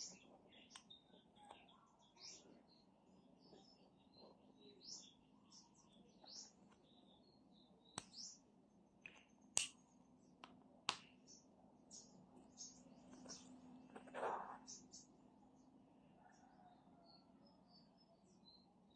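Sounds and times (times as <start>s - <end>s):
small birds chirping faintly: 0.0s - 18.9s.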